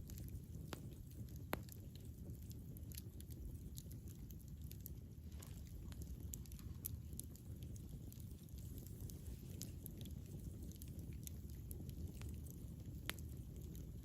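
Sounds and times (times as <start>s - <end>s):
campfire crackling and popping: 0.0s - 14.0s
low rumble of burning: 0.0s - 14.0s.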